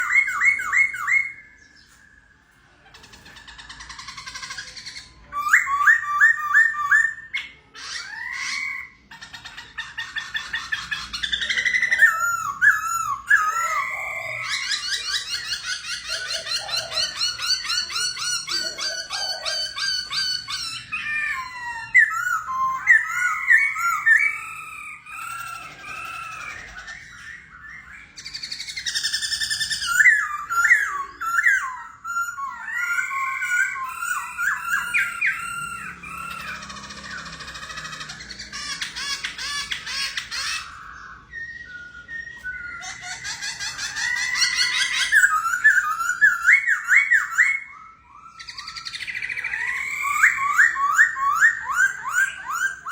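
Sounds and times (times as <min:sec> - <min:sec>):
songbird singing trills: 0:00.0 - 0:52.9.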